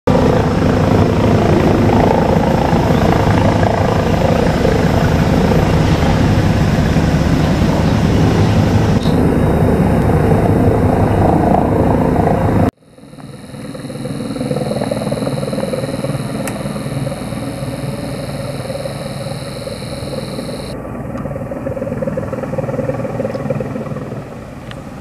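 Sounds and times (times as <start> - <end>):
helicopter rotor beating: 0.1 - 20.8.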